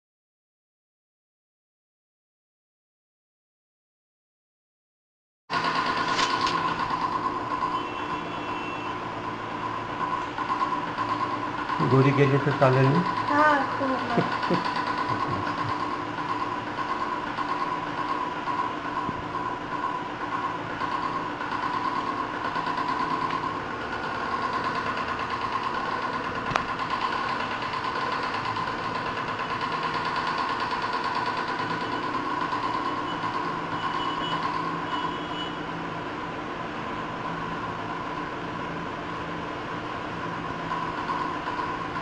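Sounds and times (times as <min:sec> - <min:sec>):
electrical buzzing hum: 0:05.7 - 0:42.0.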